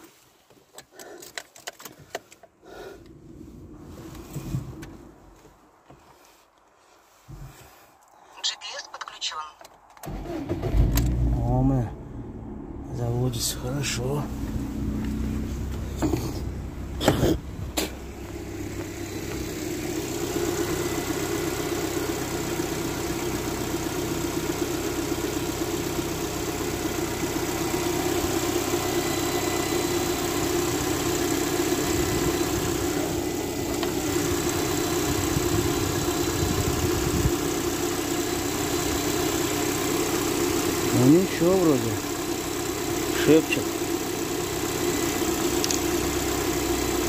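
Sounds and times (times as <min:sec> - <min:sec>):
car engine idling: 0:02.0 - 0:47.0.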